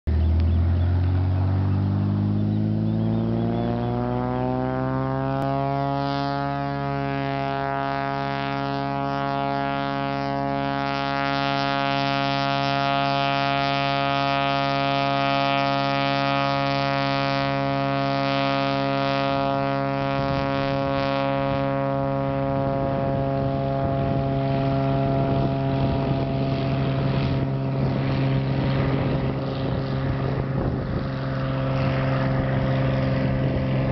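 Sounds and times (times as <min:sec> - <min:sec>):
propeller plane engine revving: 0:00.0 - 0:33.9.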